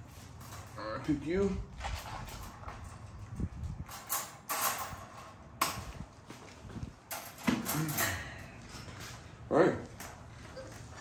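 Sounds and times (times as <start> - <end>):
handling knocks and rustles: 0.0 - 11.0.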